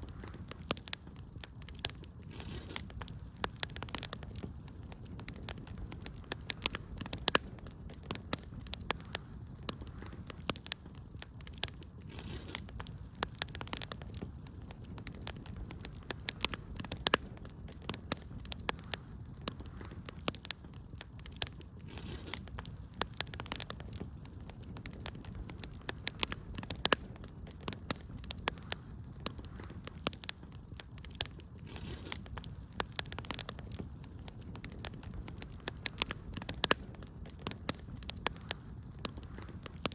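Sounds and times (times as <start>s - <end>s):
fire popping and snapping: 0.0s - 39.9s
fire rumbling: 0.0s - 39.9s.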